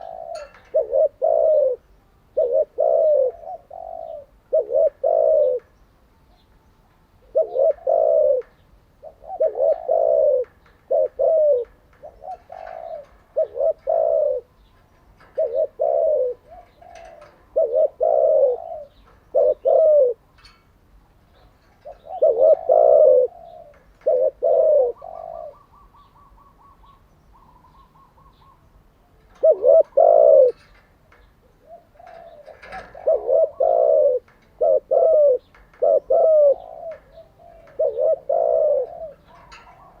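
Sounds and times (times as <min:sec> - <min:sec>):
dove cooing: 0:00.0 - 0:06.4, 0:07.2 - 0:20.7, 0:21.3 - 0:40.0.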